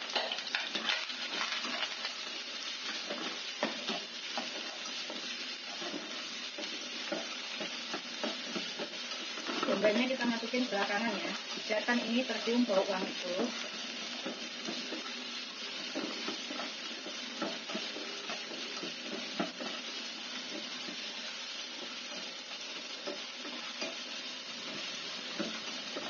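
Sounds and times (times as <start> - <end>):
garlic sizzling in hot oil: 0.0 - 26.0
spatula scraping and tapping pan: 0.1 - 10.0, 13.5 - 26.0.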